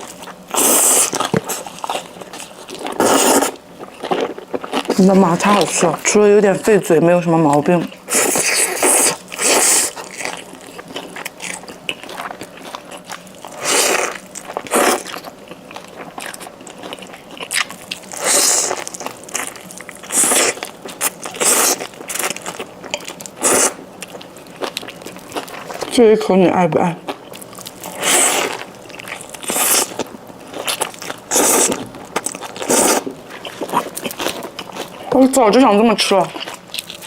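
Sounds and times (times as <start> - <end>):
crunchy chewing: 0.0 - 6.1, 7.7 - 26.0, 27.1 - 37.0.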